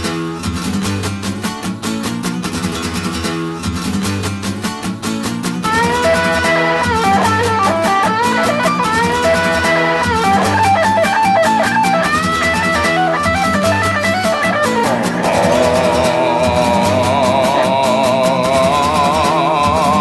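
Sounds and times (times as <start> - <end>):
guitar music with steady beat: 0.0 - 20.0.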